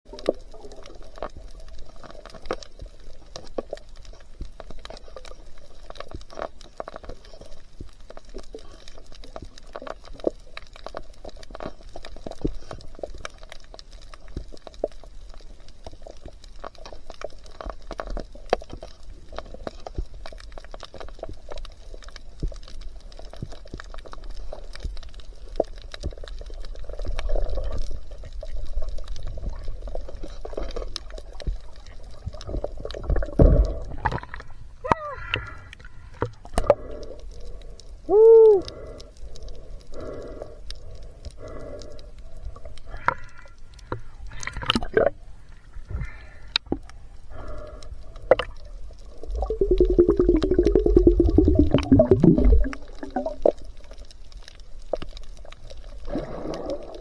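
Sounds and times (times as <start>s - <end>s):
water sloshing and bubbling: 0.0s - 57.0s.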